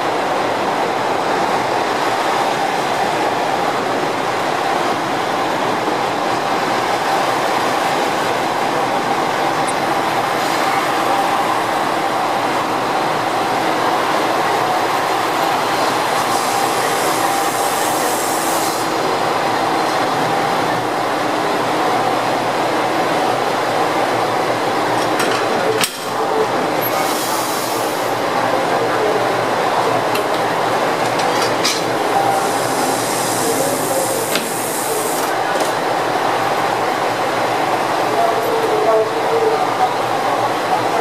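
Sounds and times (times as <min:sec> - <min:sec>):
diesel railcars whining: 0:00.0 - 0:41.0.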